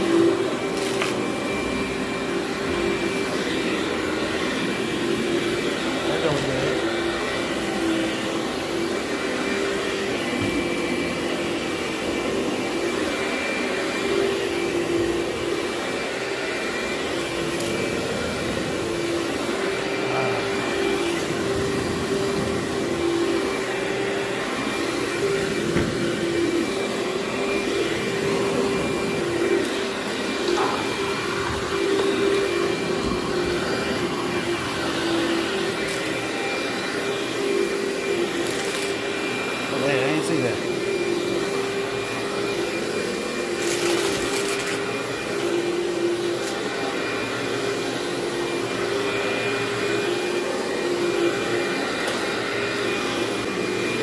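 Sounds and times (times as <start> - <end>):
vacuum cleaner on carpet: 0.0 - 54.0.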